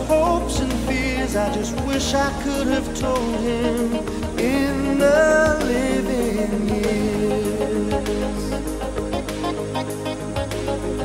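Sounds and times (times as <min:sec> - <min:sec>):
instrumental pop music held chords: 0:00.0 - 0:11.0.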